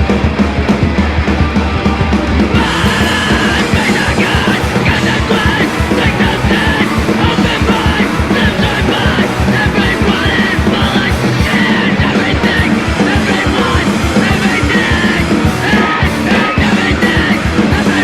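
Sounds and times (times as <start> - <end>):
fast drumming: 0.0 - 18.0
hardcore punk song: 0.0 - 18.0
shouted vocals: 1.5 - 18.0.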